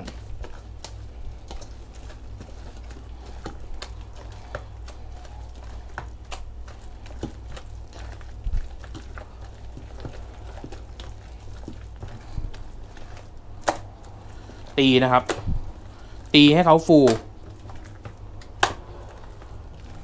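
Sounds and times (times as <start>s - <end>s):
hands kneading wet paste: 0.0s - 20.0s
steady low hum: 0.0s - 20.0s.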